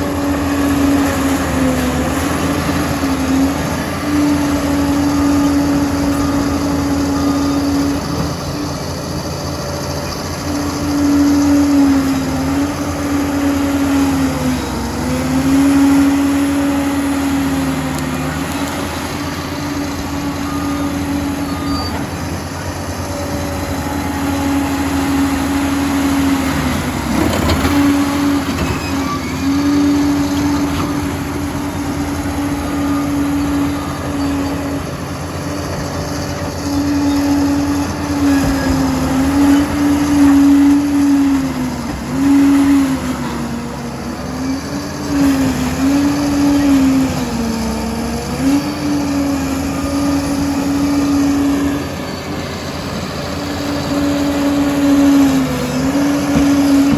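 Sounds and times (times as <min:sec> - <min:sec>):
bulldozer engine and drive whining: 0:00.0 - 0:56.9.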